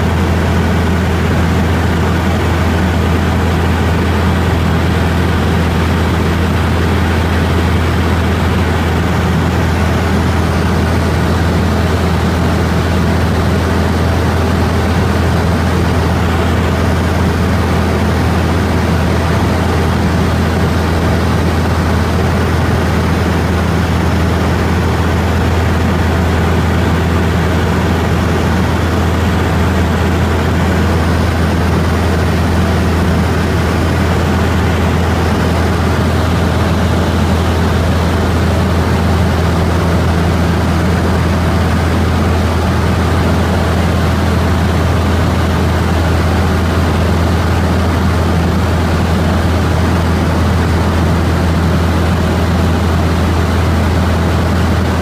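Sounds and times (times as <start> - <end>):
propeller aircraft engine drone: 0.0 - 55.0.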